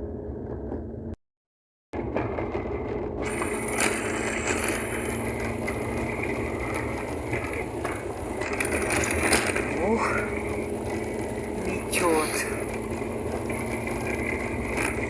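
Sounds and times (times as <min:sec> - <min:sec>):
car road and engine rumble: 0:02.0 - 0:15.0.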